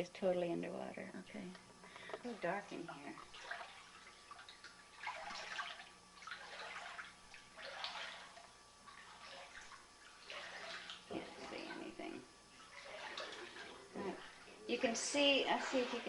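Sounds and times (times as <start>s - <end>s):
floodwater sloshing around legs: 2.3s - 16.0s.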